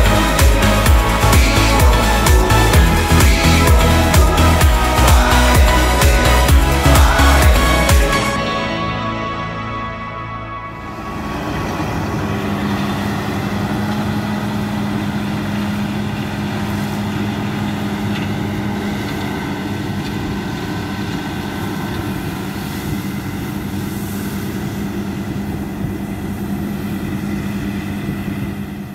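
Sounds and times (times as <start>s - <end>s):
threshing machinery whir: 0.0s - 9.2s, 9.9s - 28.9s
combine harvester engine drone: 0.0s - 28.9s.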